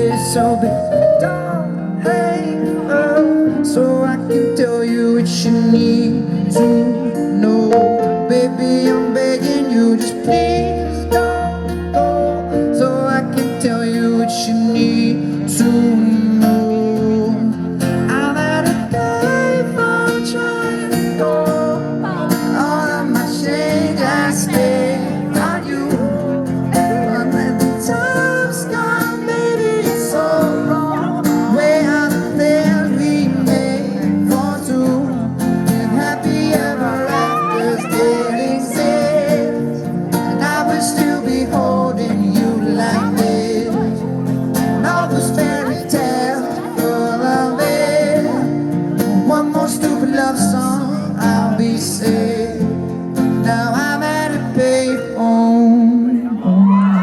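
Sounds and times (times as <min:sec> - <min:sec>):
acoustic guitar chords: 0:00.0 - 0:57.0
person singing: 0:00.0 - 0:57.0.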